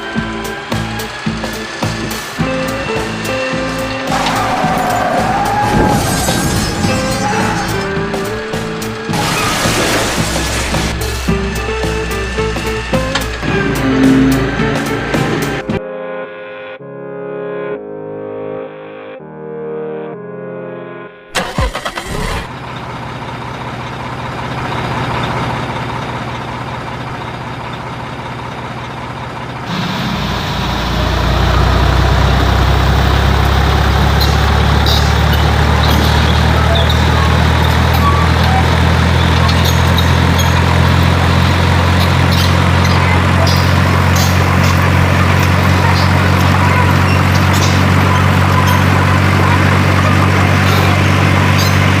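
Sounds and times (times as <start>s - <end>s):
engine cranking and idling: 0.0s - 15.8s, 21.3s - 52.0s.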